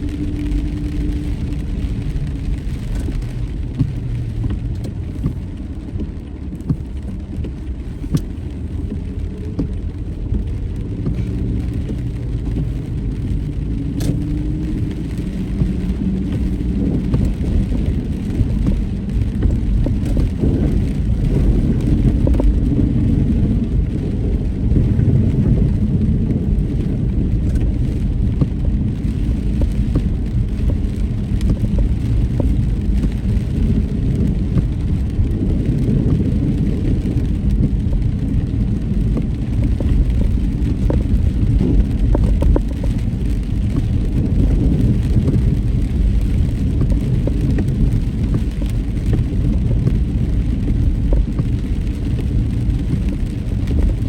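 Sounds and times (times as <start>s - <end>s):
car driving on road: 0.0s - 54.0s.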